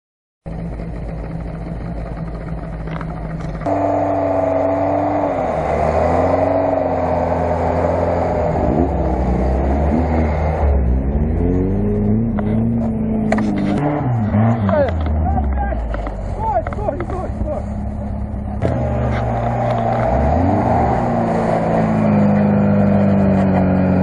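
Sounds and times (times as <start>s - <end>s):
car engine revving: 0.5s - 24.0s.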